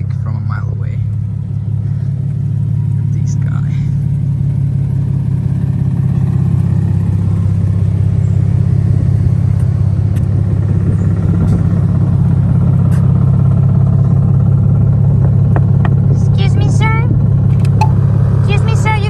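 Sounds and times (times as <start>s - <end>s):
car exhaust rumbling: 0.0s - 19.0s.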